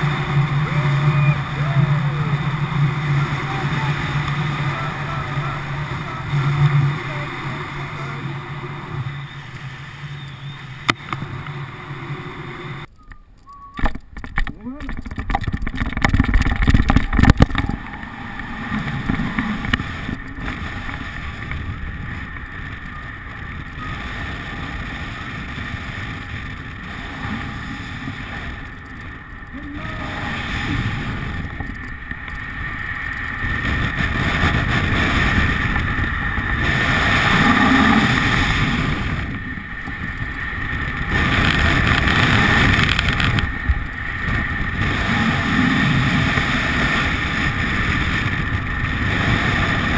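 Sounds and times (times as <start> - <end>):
wind rushing on microphone: 0.0 - 49.9.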